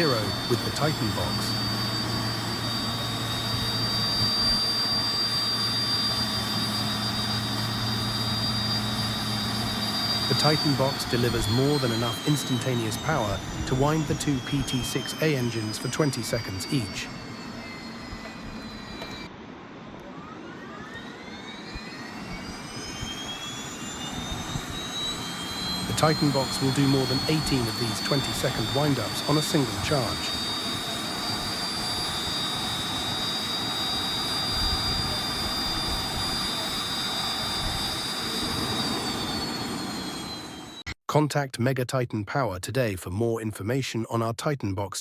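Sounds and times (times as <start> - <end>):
turboprop engine whining: 0.0 - 41.0.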